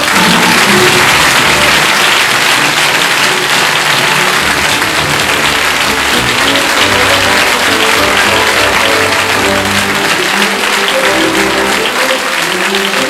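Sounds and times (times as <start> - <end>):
audience applauding: 0.0 - 13.0
closing music: 0.0 - 13.0.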